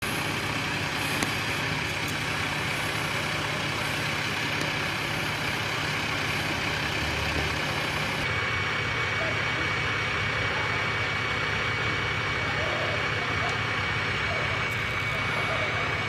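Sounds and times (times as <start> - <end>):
diesel railcar engine idling: 0.0 - 16.0.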